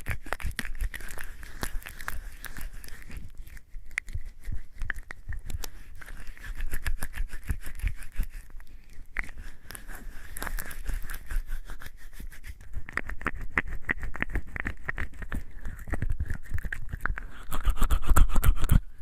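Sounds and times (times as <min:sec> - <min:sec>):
hands lathering with soap: 0:00.0 - 0:18.8.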